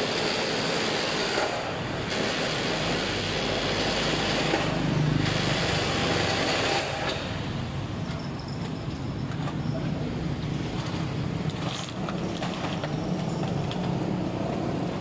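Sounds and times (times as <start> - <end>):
metal shutter rattling along track: 0.0 - 15.0.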